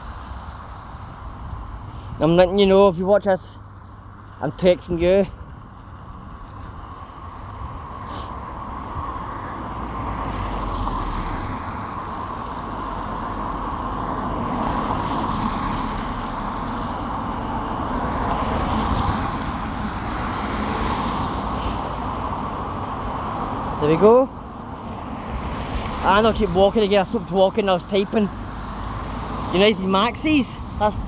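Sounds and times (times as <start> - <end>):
traffic on a wet road: 0.0 - 31.0.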